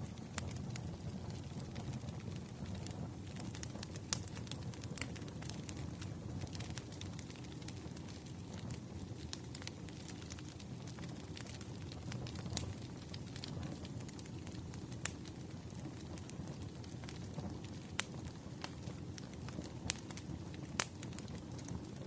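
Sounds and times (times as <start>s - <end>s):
campfire crackling: 0.0s - 22.0s
fire pops and snaps: 0.0s - 22.0s.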